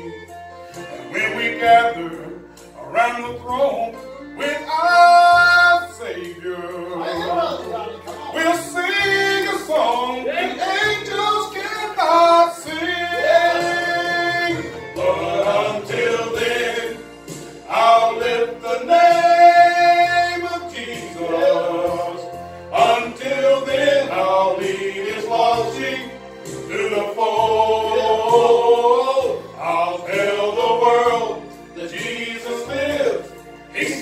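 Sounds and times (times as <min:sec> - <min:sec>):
group singing in harmony: 0:00.0 - 0:03.0, 0:04.4 - 0:34.0
instrumental accompaniment with bass: 0:00.0 - 0:34.0.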